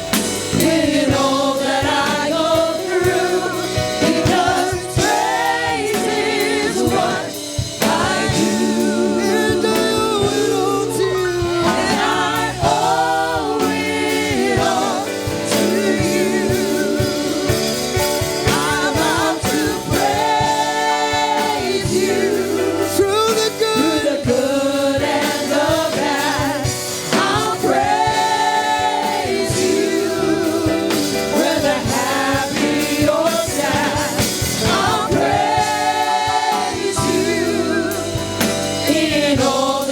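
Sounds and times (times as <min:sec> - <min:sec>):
group singing gospel song: 0:00.0 - 0:39.9
live band playing: 0:00.0 - 0:39.9.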